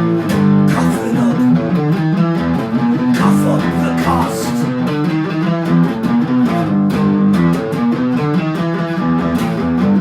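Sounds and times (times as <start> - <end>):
guitar strumming chords: 0.0 - 10.0.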